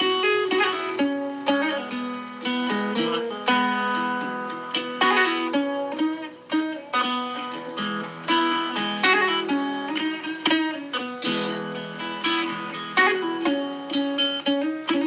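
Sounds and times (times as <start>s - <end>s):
dobro guitar playing: 0.0s - 15.0s.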